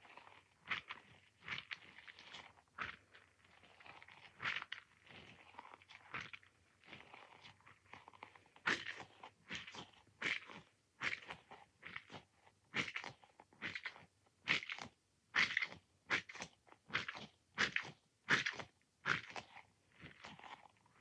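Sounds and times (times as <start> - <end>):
squishy toy ball squelching: 0.0 - 21.0.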